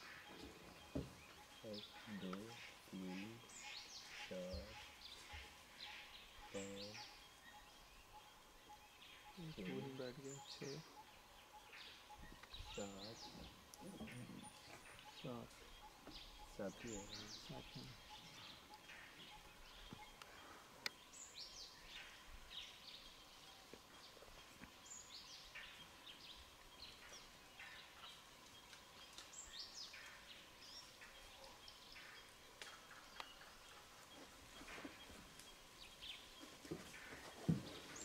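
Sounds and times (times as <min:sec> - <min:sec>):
bird calling: 0:00.0 - 0:38.0
faint forest ambience: 0:00.0 - 0:38.0.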